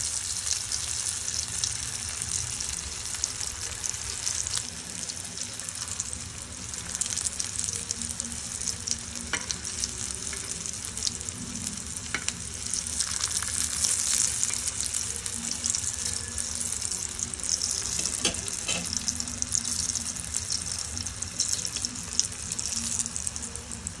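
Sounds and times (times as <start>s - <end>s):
patties sizzling in hot oil: 0.0s - 24.0s.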